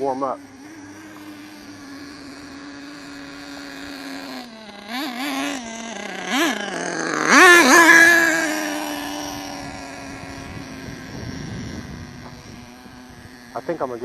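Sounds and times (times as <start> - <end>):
small nitro engine idling and revving: 0.0 - 14.0.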